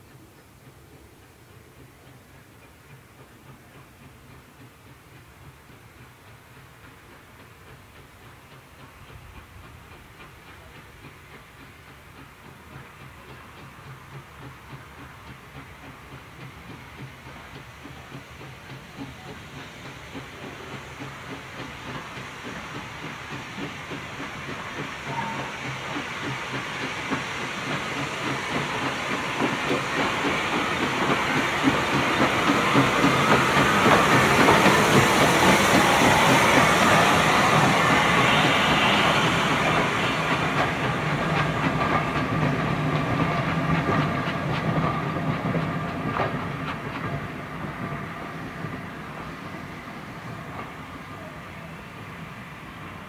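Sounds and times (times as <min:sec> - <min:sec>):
steam hiss: 0:00.0 - 0:53.0
steam locomotive exhaust beats: 0:00.0 - 0:53.0.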